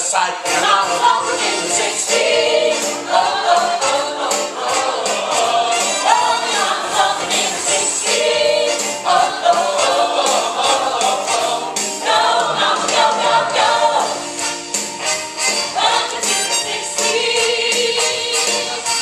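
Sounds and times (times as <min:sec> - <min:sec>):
cast singing together: 0:00.0 - 0:14.4, 0:15.7 - 0:19.0
band playing upbeat pop: 0:00.0 - 0:19.0.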